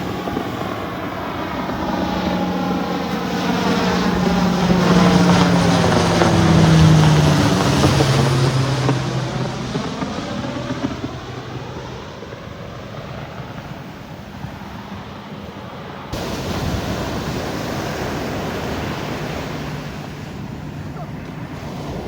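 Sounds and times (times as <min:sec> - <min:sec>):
jet aircraft passing overhead: 0:00.0 - 0:22.0
wind noise on microphone: 0:00.0 - 0:22.0.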